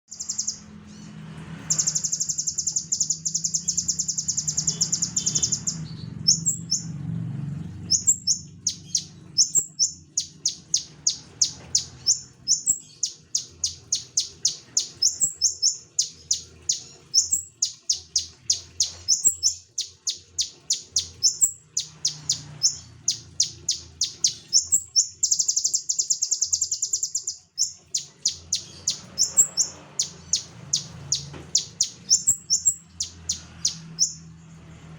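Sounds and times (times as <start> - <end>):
songbird trilling and chirping: 0.0 - 1.0, 1.6 - 34.4.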